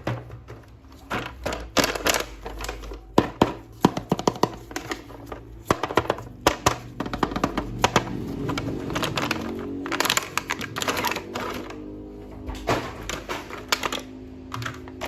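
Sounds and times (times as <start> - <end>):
plastic toy clicking and tapping: 0.0 - 11.9, 13.1 - 15.0
quiet background music: 0.2 - 15.0.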